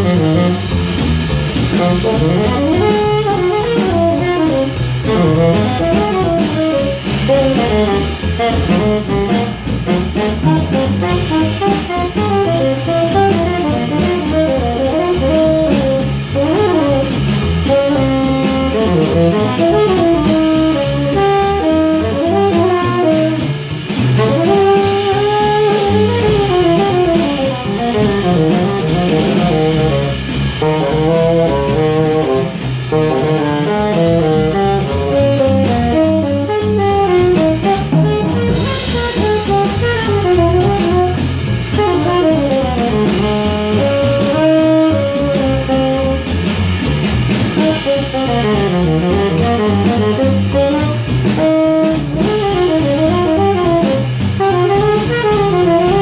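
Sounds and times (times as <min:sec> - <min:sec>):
drum kit with cymbals: 0:00.0 - 0:56.0
plucked double bass: 0:00.0 - 0:56.0
tenor saxophone playing fast: 0:00.0 - 0:56.0.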